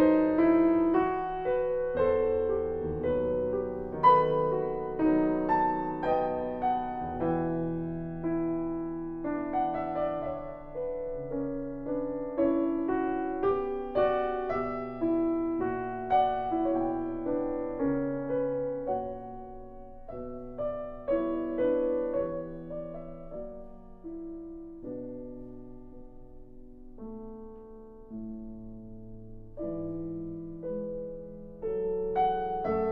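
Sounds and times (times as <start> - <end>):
slow piano melody: 0.0 - 32.9.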